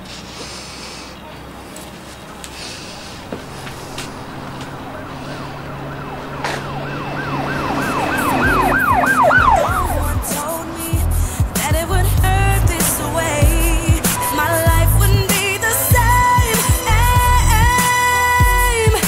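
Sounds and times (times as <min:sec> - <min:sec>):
city traffic rumble: 0:00.0 - 0:19.0
emergency vehicle siren: 0:03.1 - 0:19.0.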